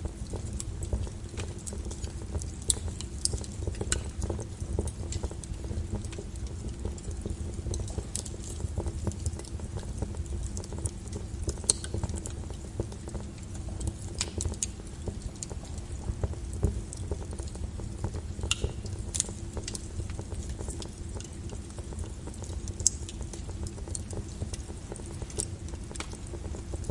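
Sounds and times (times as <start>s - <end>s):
fire crackling and popping: 0.0s - 26.9s.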